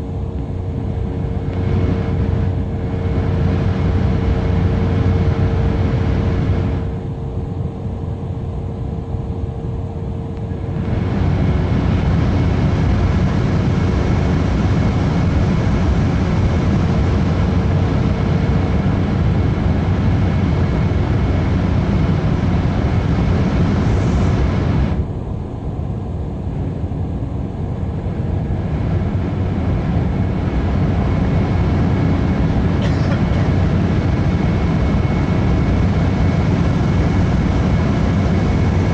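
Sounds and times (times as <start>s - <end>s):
jet engines rushing on take-off: 0.0s - 38.9s.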